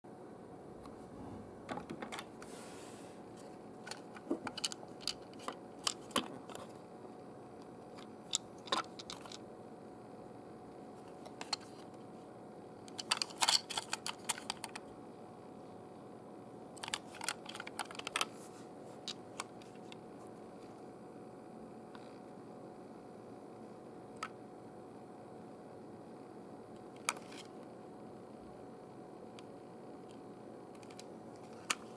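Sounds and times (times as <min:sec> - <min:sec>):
faint hum: 0:00.1 - 0:31.9.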